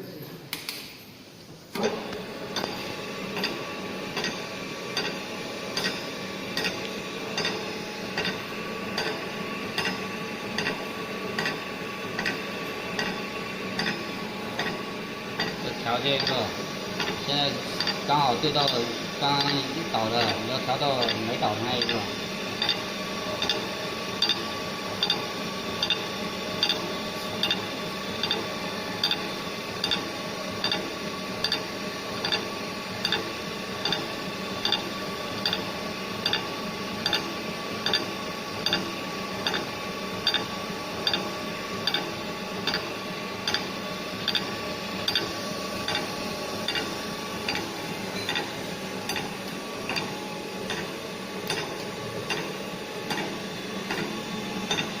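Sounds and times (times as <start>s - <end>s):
machine tick and grind: 1.8s - 55.0s.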